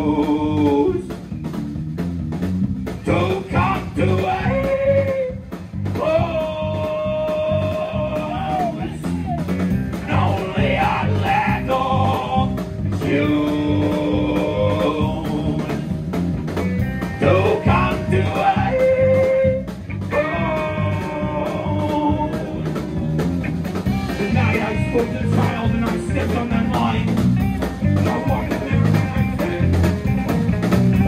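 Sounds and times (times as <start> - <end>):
man singing: 0.0 - 1.2, 3.0 - 16.0, 17.2 - 23.4, 24.0 - 27.3, 27.9 - 29.7
drum kit beat: 0.0 - 31.0
electric bass: 0.0 - 31.0
electric guitar: 0.0 - 31.0.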